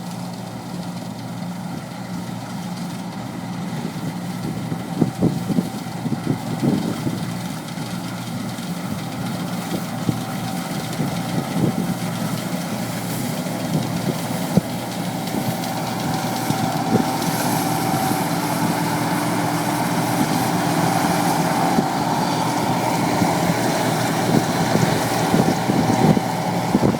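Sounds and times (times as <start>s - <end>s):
combine harvesters humming: 0.0s - 26.9s.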